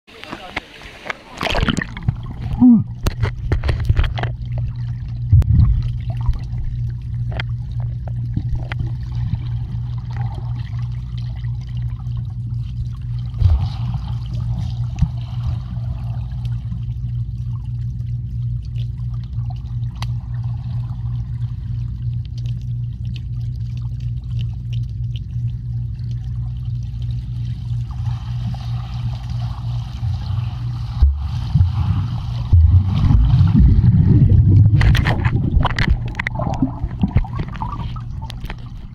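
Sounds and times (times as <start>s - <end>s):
muffled bubbling: 0.1s - 38.9s
underwater low hum: 0.1s - 38.9s.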